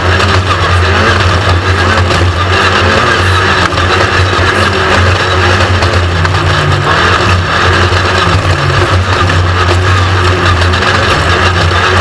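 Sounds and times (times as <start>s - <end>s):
buggy engine running hard: 0.0s - 12.0s
loud steady rushing noise: 0.0s - 12.0s.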